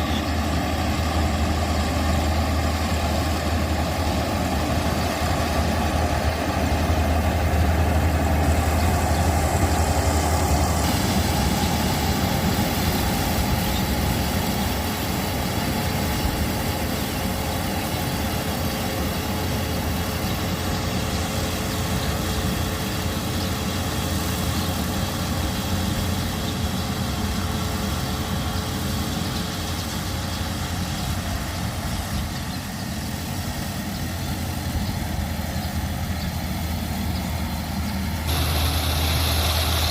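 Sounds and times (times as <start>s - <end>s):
engine drone: 0.0s - 39.9s.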